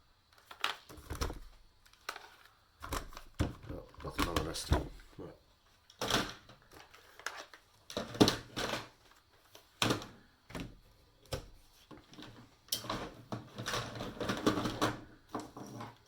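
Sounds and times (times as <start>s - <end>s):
plastic parts clacking and rattling: 0.3s - 4.9s, 5.8s - 10.7s, 11.3s - 16.0s.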